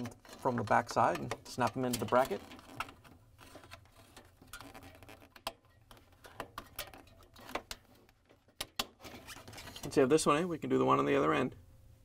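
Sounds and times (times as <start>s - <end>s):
soft handling noise: 0.0s - 10.6s.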